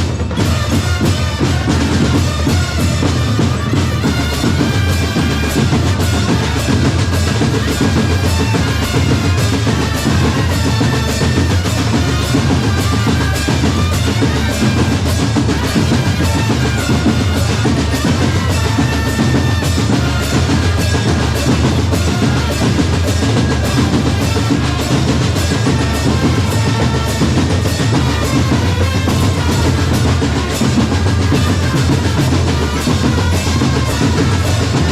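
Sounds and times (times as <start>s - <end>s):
bass and snare drums: 0.0s - 34.9s.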